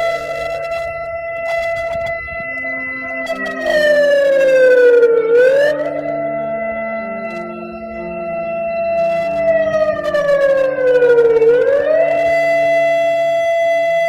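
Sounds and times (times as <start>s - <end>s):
emergency alert siren tone: 0.0s - 14.0s
low sustained notes: 0.0s - 14.0s.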